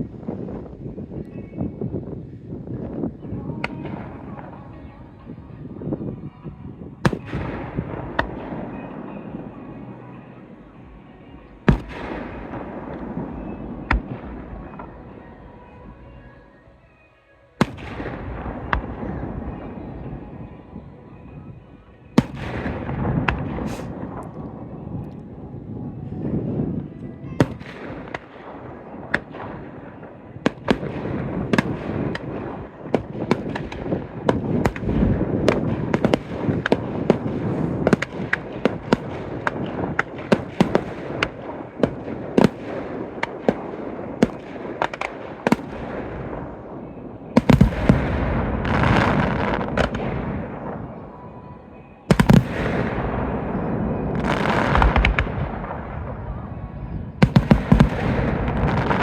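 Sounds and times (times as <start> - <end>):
fireworks bangs and crackles: 0.0 - 16.2, 17.6 - 59.0
loud fireworks salvos: 0.0 - 16.2, 17.6 - 59.0.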